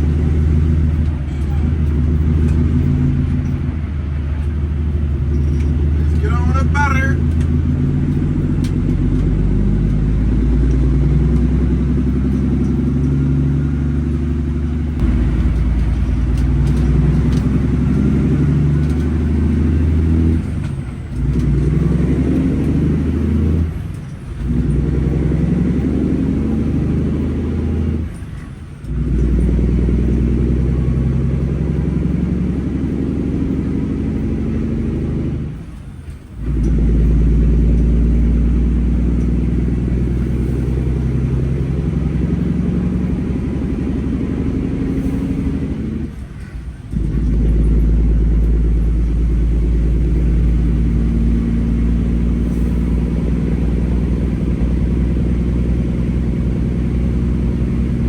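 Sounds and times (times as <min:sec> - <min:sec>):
diesel truck engine on road: 0:00.0 - 0:58.0.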